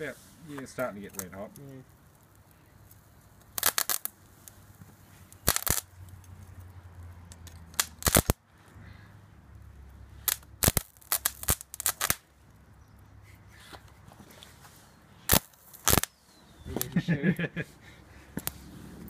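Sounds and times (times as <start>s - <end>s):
electrical arcing crackles: 0.0s - 8.6s, 9.3s - 13.1s, 15.2s - 17.6s, 18.4s - 19.0s.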